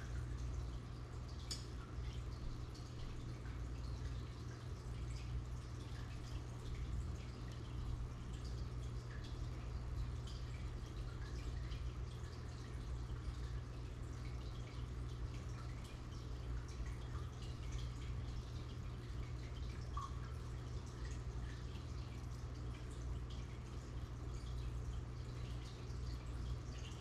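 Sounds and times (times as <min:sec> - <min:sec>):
filter pump hum: 0:00.0 - 0:27.0
water bubbling and trickling: 0:00.0 - 0:27.0.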